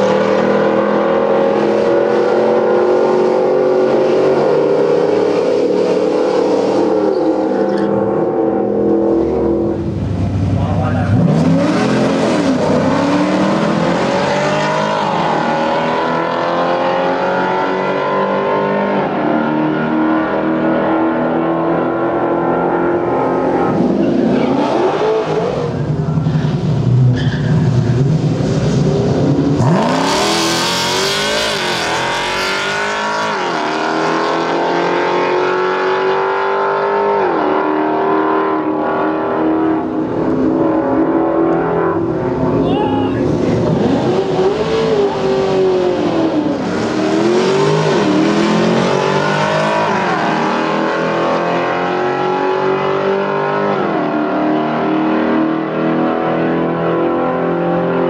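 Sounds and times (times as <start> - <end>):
drag cars accelerating: 0.0 - 58.0.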